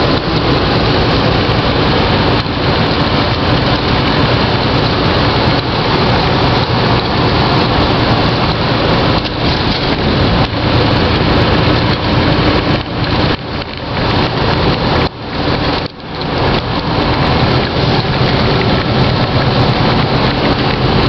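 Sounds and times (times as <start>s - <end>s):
truck engine tire and wind noise: 0.0s - 21.0s.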